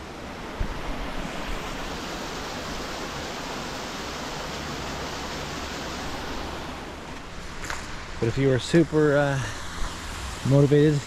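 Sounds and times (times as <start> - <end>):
waterfall and stream rushing: 0.0 - 11.0.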